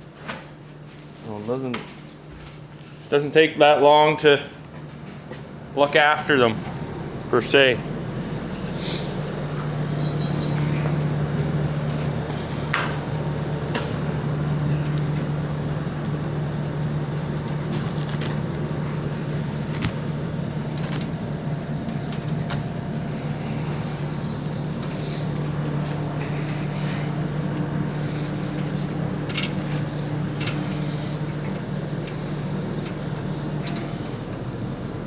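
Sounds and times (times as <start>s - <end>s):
farm machine engine running: 6.4s - 35.0s.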